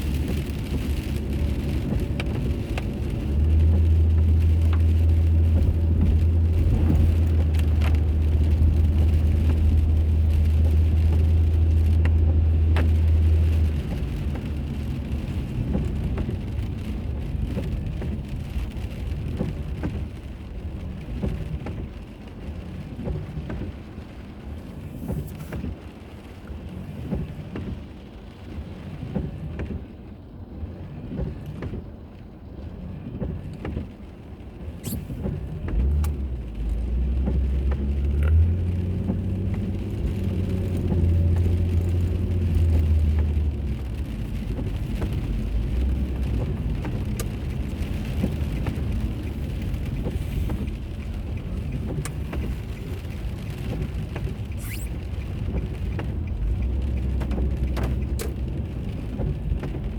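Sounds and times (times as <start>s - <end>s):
light ticks: 0.0s - 29.8s, 33.2s - 59.9s
road and tyre noise: 0.0s - 59.9s.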